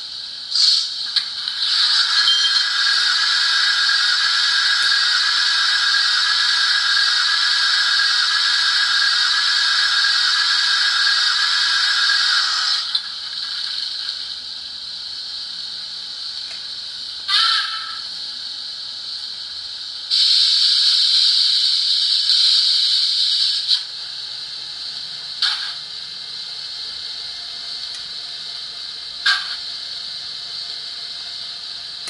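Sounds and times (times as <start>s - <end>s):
steam hiss from small loudspeaker: 0.0s - 32.0s.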